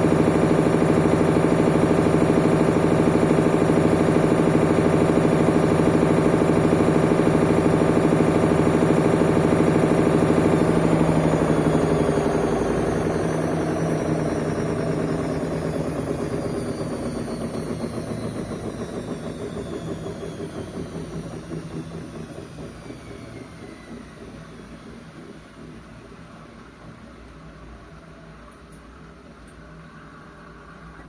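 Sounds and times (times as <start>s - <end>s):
washing machine spinning down: 0.0s - 31.0s.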